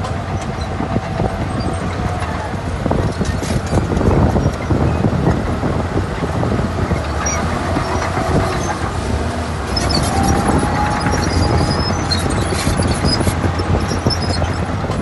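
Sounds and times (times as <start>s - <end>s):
bulldozer diesel engine running: 0.0s - 15.0s
track links squeaking: 0.0s - 15.0s.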